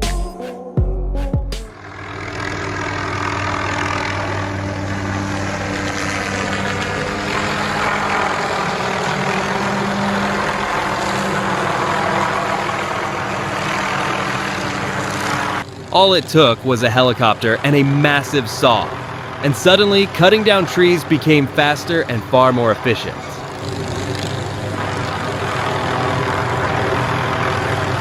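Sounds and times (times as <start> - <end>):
large engine droning: 1.7 - 28.0.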